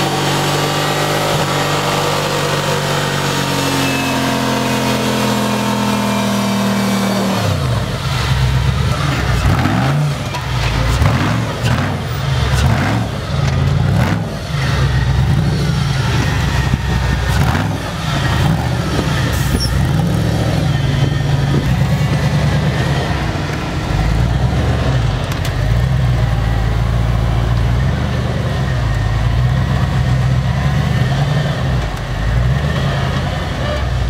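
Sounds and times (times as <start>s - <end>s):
off-road vehicle engine running: 0.0s - 34.0s.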